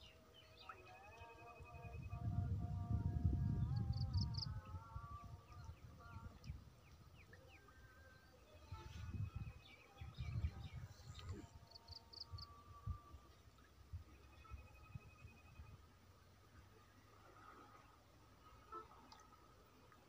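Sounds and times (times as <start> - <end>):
faint birdsong: 0.0 - 2.4, 3.5 - 20.0.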